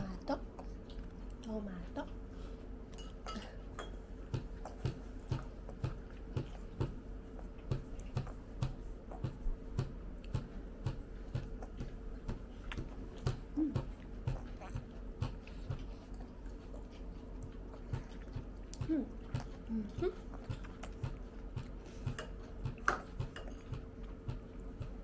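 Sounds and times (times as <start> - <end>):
faint steady hum: 0.0 - 25.0
person chewing food: 0.4 - 1.5, 2.2 - 25.0.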